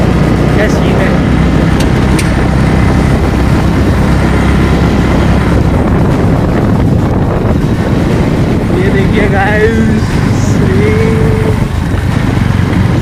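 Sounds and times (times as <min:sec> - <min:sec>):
vehicle rumble: 0:00.0 - 0:13.0
wind buffeting the microphone: 0:00.0 - 0:13.0.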